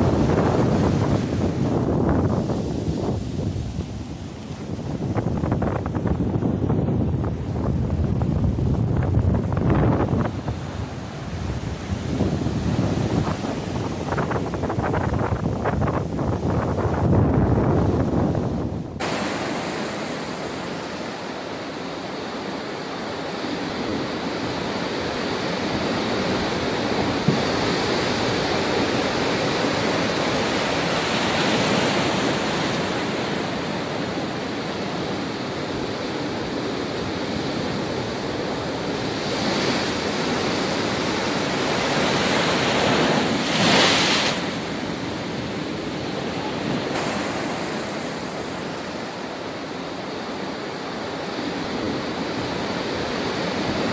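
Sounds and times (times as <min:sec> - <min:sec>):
storm surf crashing: 0:00.0 - 0:53.9
wind: 0:00.0 - 0:53.9.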